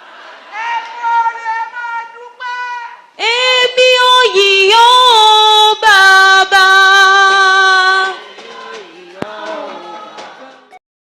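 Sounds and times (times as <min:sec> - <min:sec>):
high solo voice singing: 0:00.5 - 0:10.8.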